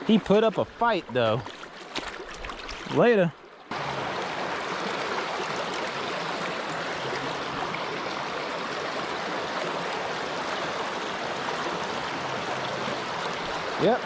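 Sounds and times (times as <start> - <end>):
river running over rocks: 0.0 - 14.0.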